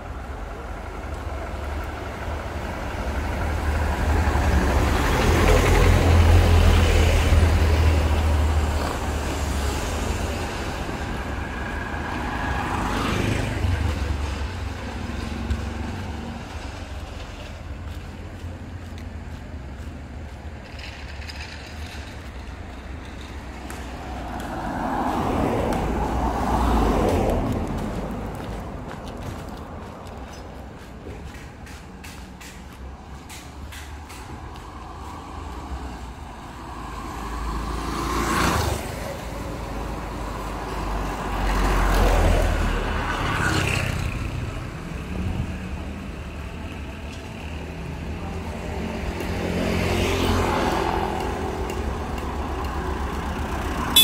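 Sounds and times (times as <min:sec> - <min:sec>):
road traffic rumble: 0:00.0 - 0:54.0
vehicles passing close by: 0:00.0 - 0:54.0.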